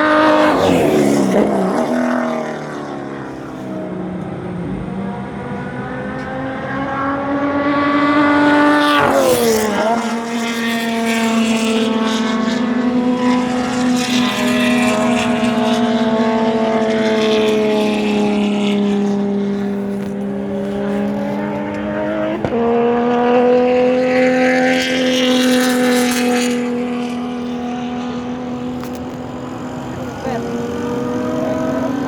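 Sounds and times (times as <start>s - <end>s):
race car engine running hard: 0.0s - 32.0s.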